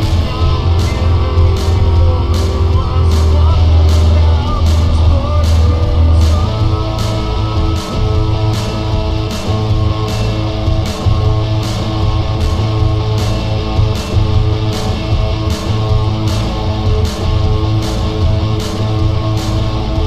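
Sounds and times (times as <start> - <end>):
guitar-driven rock music: 0.0 - 20.0.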